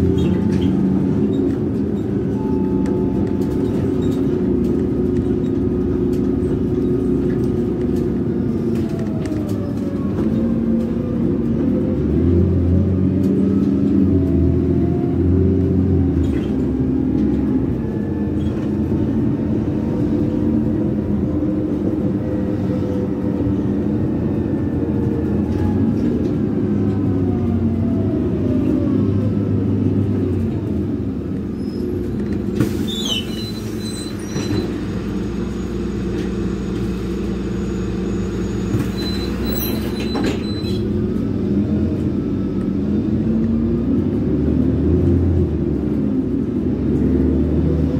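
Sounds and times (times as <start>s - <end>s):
bus engine and road rumble: 0.0s - 47.9s.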